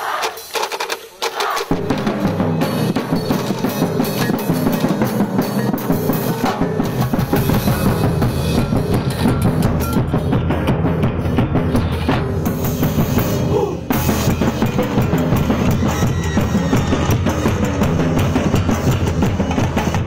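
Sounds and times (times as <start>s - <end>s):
percussion ensemble playing: 0.0s - 20.0s
bass drum: 1.7s - 20.0s.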